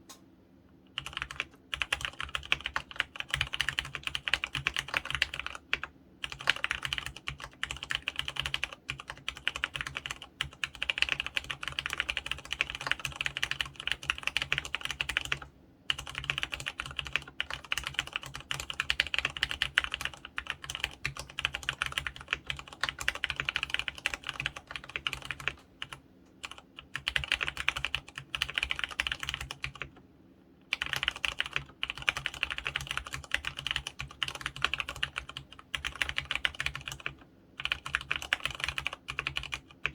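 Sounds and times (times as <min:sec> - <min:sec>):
mechanical keyboard typing: 0:01.0 - 0:30.0, 0:30.7 - 0:39.9.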